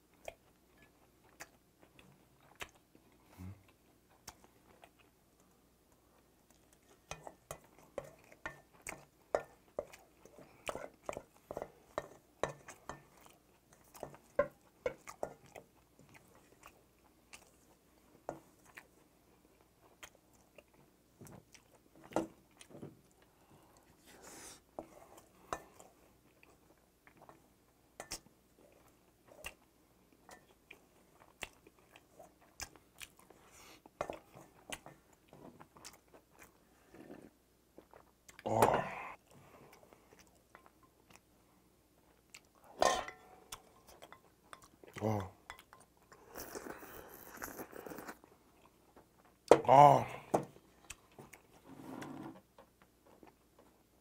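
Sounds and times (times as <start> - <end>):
chewing and lip-smacking: 0.0 - 23.9, 28.1 - 38.5, 39.1 - 41.4, 42.0 - 42.8, 43.4 - 49.5, 50.6 - 51.5.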